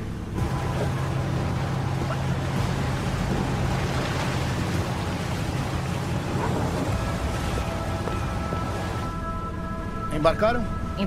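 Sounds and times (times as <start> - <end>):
sea washing: 0.0 - 9.2
boat engines running: 0.0 - 11.0
background music: 0.4 - 11.0.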